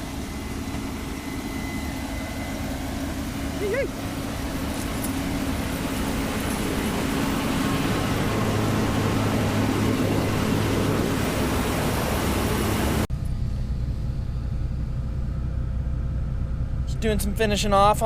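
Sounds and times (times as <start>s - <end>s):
combine harvester running: 0.0s - 18.0s
machine hum inside cab: 0.0s - 18.0s.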